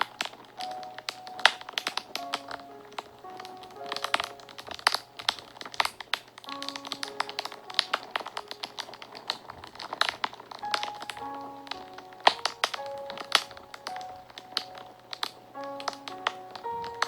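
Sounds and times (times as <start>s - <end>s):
soft background music: 0.0s - 17.0s
wood fire crackling and popping: 0.0s - 17.0s.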